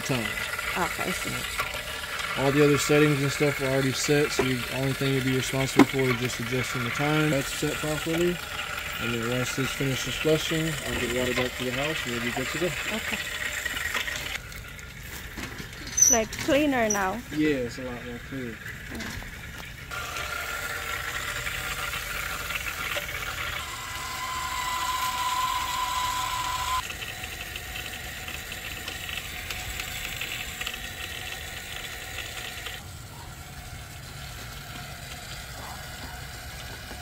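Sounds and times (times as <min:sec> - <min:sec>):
water rushing through valve: 0:00.0 - 0:37.0.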